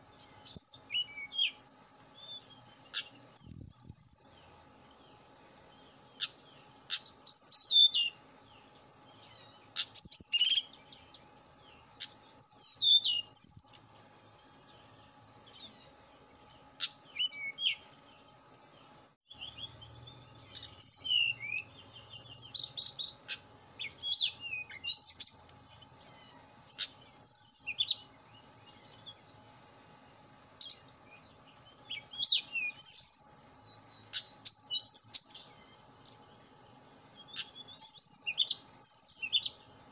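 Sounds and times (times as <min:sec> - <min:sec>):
bird singing whistled notes: 0:00.0 - 0:13.8, 0:14.4 - 0:18.4, 0:19.3 - 0:39.6.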